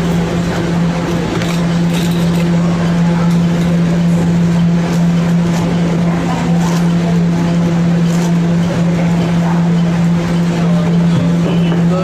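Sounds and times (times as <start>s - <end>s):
constant rumble: 0.0s - 12.0s.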